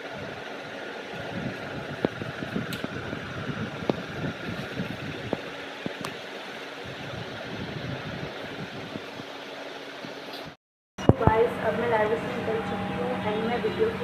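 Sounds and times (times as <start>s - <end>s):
mechanical hum and hiss: 0.0s - 14.0s.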